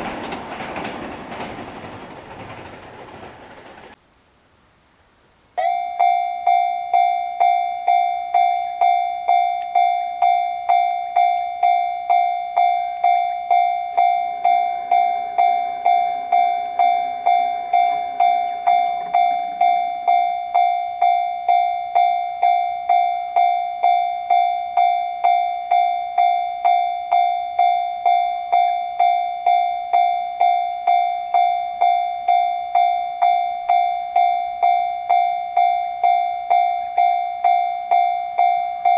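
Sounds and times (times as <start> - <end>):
electronic level crossing bell: 5.6 - 38.9.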